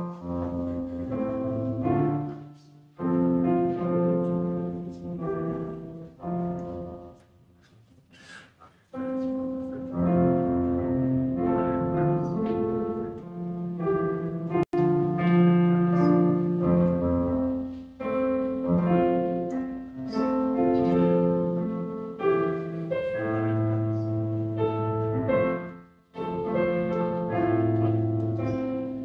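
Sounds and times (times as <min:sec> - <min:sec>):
slow piano music: 0:00.0 - 0:07.4, 0:08.9 - 0:29.0.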